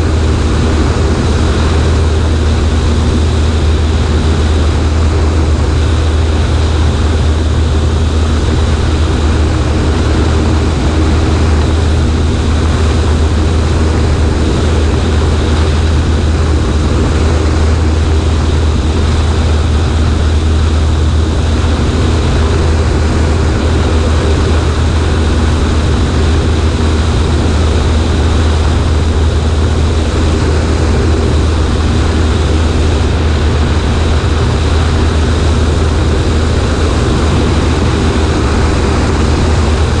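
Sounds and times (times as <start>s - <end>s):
airplane engine and propeller droning: 0.0s - 40.0s.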